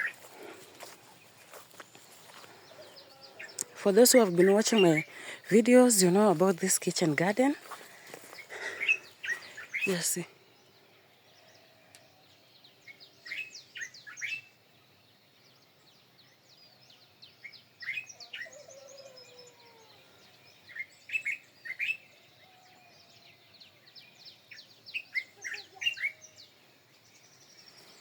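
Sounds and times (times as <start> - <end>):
faint outdoor background: 0.0 - 28.0
songbird chirping: 0.0 - 28.0.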